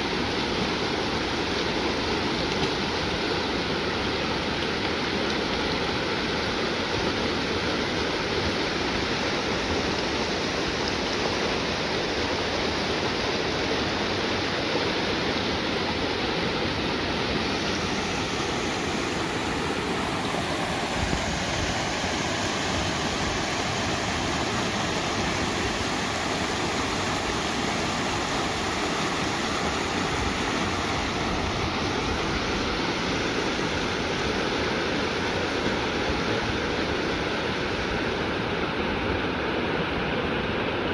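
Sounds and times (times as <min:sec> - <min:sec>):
river babbling over stones: 0:00.0 - 0:40.9.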